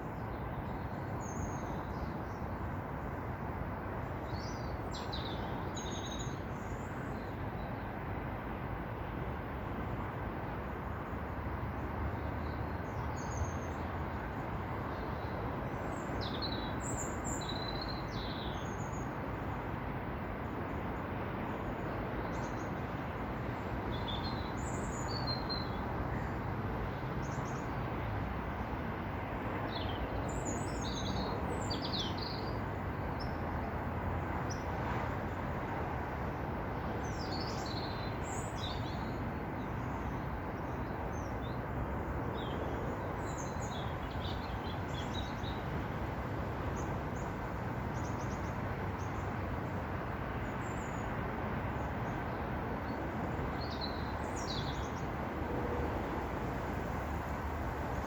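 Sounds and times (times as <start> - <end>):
outdoor background rush: 0.0 - 58.0.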